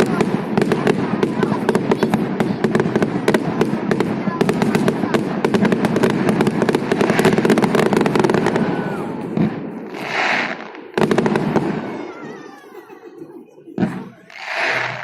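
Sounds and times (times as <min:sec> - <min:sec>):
fireworks crackling pops: 0:00.0 - 0:12.3, 0:13.8 - 0:15.0.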